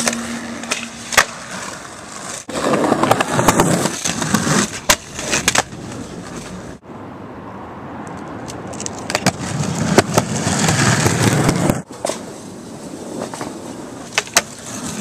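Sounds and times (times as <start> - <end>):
skateboard clacking on ground: 0.0 - 6.7, 8.0 - 12.4, 13.0 - 15.0
skateboard wheels grinding: 0.0 - 6.8, 8.4 - 15.0.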